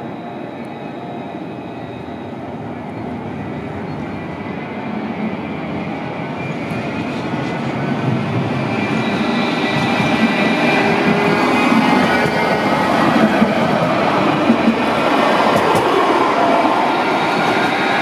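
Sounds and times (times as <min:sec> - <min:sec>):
tram running hum: 0:00.0 - 0:18.0.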